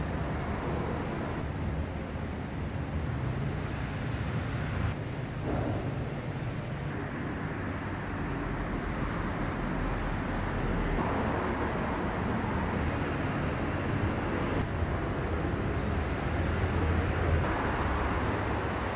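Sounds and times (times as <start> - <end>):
ambient rumble and hiss: 0.0 - 18.9.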